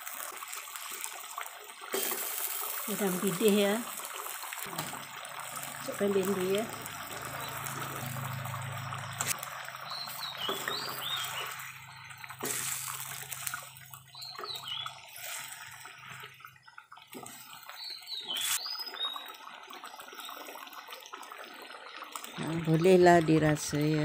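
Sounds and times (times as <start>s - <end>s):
sauce sloshing and bubbling: 0.0s - 23.6s.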